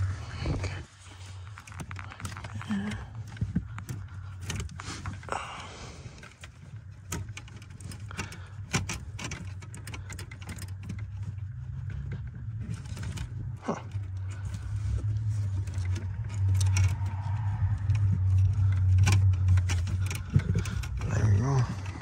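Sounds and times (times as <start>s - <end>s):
steady low hum: 0.0s - 22.0s
wires rustling and clicking: 0.0s - 22.0s.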